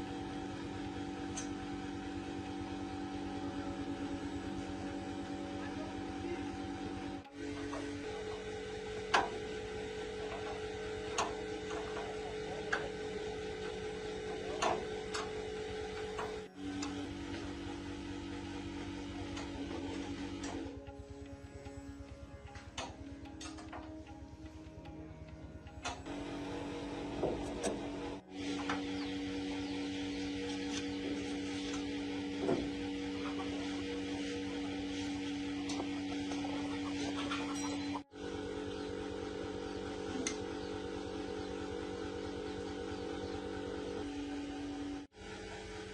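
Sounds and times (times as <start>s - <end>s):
electric motor humming: 0.0s - 45.9s.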